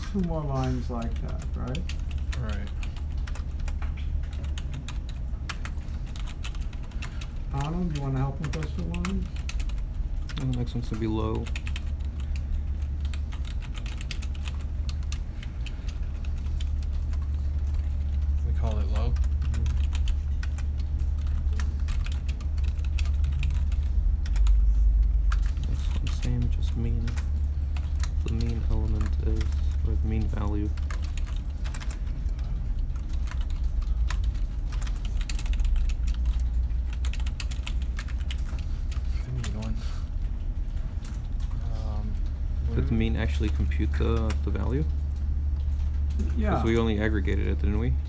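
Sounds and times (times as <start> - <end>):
keyboard typing clicks: 0.0 - 39.7
steady low hum: 0.0 - 48.0.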